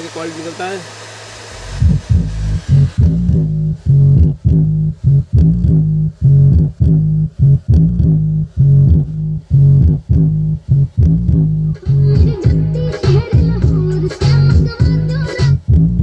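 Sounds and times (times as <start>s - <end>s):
heavy bass pulsing from subwoofer: 1.4s - 16.0s.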